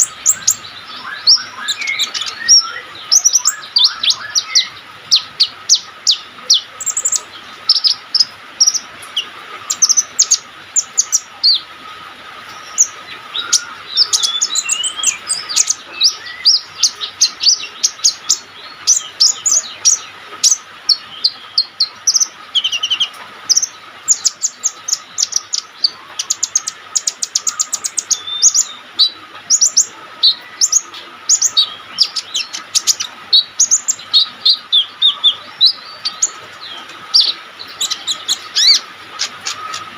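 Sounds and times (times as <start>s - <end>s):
bird singing high chirps: 0.0s - 11.7s, 12.4s - 39.9s.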